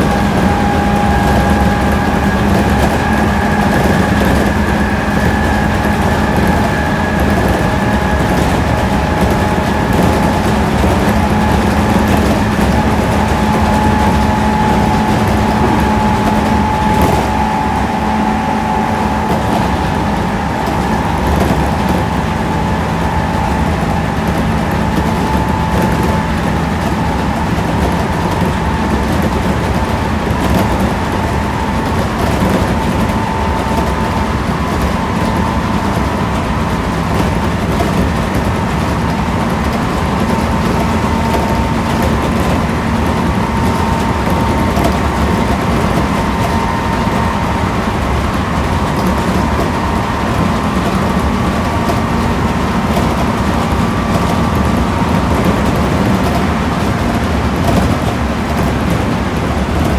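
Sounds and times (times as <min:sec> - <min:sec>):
train equipment hum and whine: 0:00.0 - 0:59.9.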